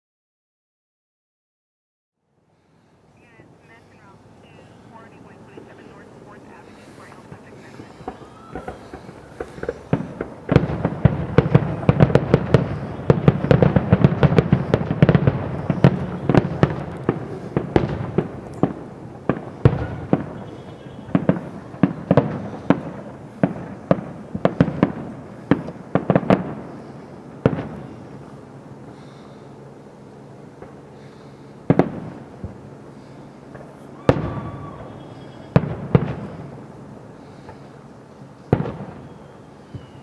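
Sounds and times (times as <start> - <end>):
aerial fireworks bursting: 3.2 - 40.0.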